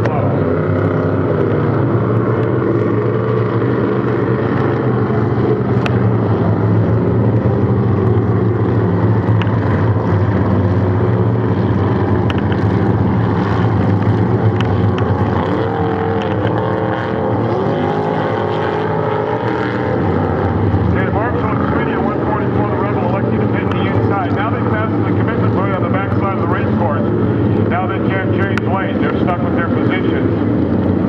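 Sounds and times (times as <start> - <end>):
race boat engines droning: 0.0 - 31.0.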